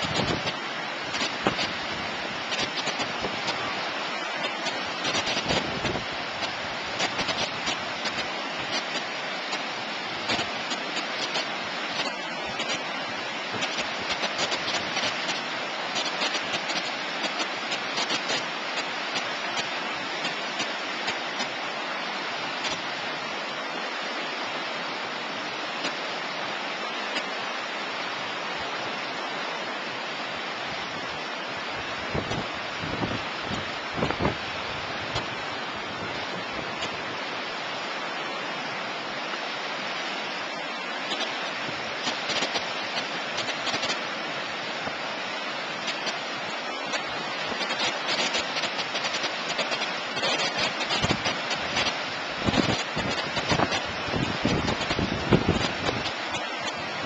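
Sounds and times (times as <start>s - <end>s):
floodwater rushing over dam: 0.0s - 57.0s.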